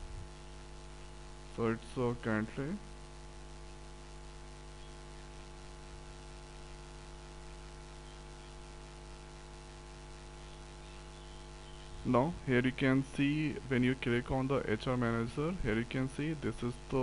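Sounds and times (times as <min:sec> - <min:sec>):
electrical mains hum: 0:00.0 - 0:17.0
faint hiss: 0:00.0 - 0:17.0.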